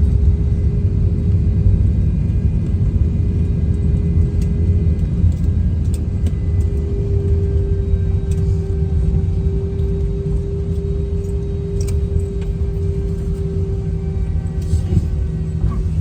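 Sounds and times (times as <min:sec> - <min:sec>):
aircraft cabin rumble: 0:00.0 - 0:16.0
mid-pitched hum: 0:00.0 - 0:16.0.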